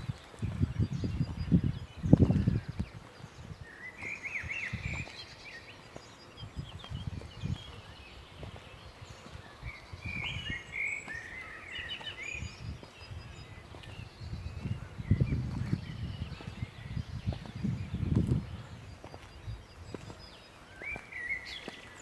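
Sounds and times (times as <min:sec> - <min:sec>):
small birds twittering: 0:00.0 - 0:22.0.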